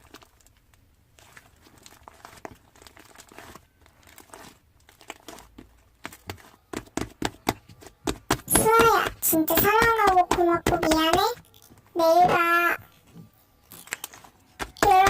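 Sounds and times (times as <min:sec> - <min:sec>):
crinkling and rustling handling: 0:00.0 - 0:15.0.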